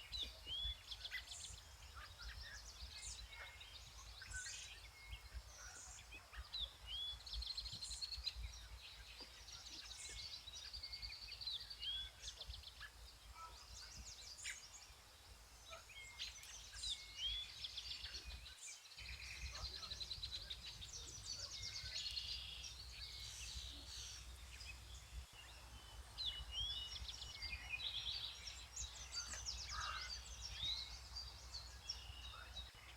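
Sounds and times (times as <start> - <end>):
songbirds trilling and chirping: 0.0 - 32.9.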